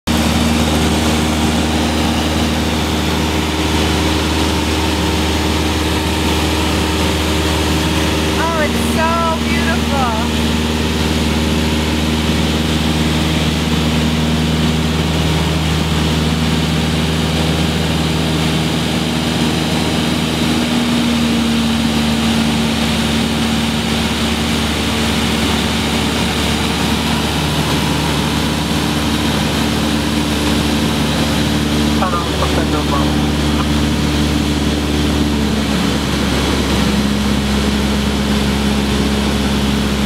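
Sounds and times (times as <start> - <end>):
propeller engine drone: 0.0 - 40.0.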